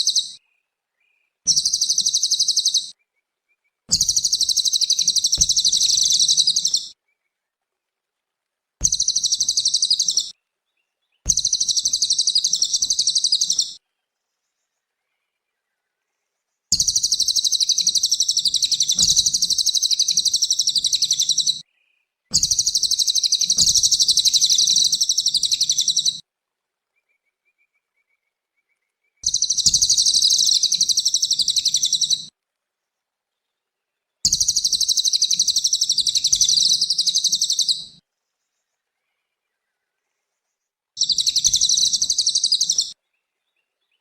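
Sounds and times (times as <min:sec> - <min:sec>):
songbird chattering song: 0:00.0 - 0:07.4, 0:08.8 - 0:26.2, 0:26.9 - 0:32.3, 0:33.4 - 0:44.0.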